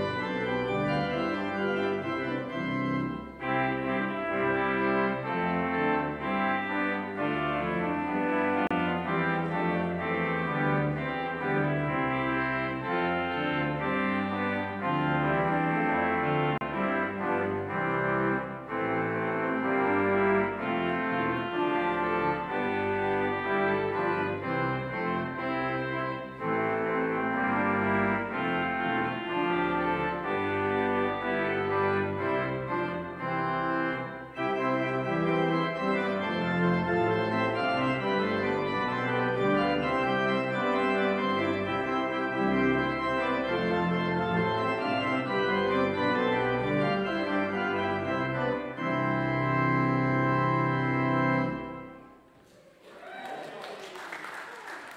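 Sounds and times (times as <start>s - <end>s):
organ playing chords: 0.0s - 52.4s.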